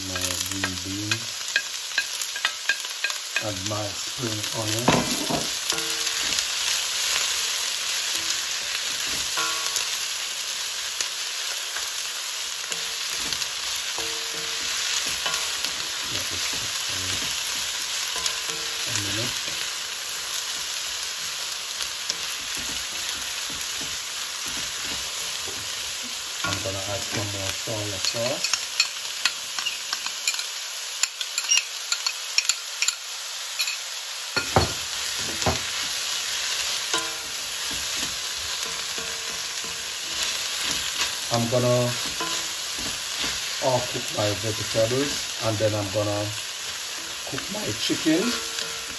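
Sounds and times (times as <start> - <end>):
vegetables sizzling in hot oil: 0.0 - 48.9
spatula scraping wok: 4.1 - 10.7, 11.7 - 30.5, 34.4 - 48.9.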